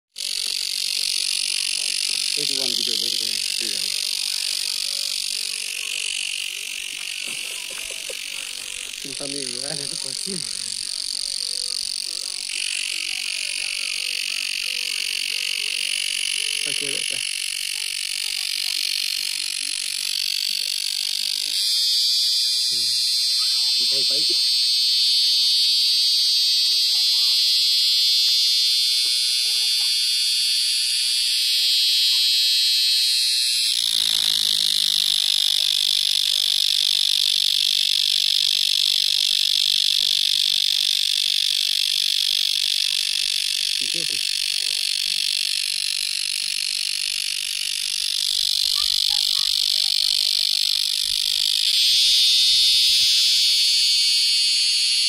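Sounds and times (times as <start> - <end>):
cicada buzzing: 0.1 - 55.0.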